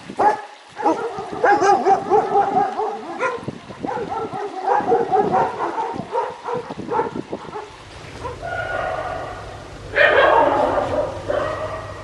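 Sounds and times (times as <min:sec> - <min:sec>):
dogs barking and yipping: 0:00.2 - 0:12.0.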